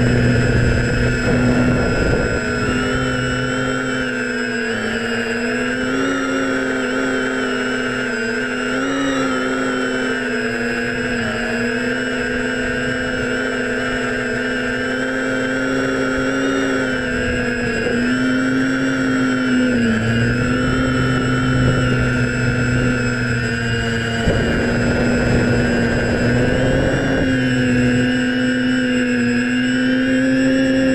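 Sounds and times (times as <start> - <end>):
drone motors and propellers whining: 0.0 - 30.9.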